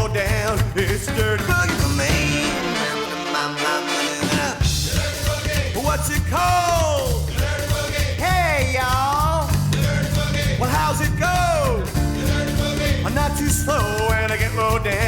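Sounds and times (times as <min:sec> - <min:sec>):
rock and roll song with singer: 0:00.0 - 0:15.0.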